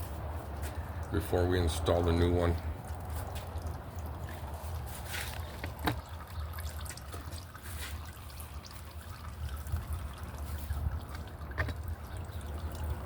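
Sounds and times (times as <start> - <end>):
oil trickling and dripping: 0.0 - 13.0.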